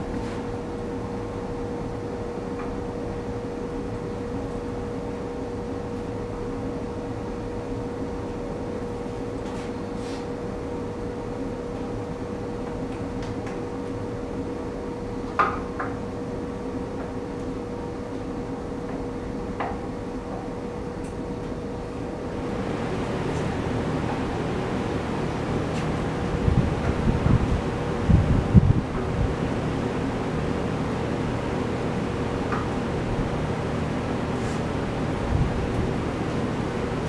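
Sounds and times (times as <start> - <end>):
workshop hum: 0.0 - 37.0.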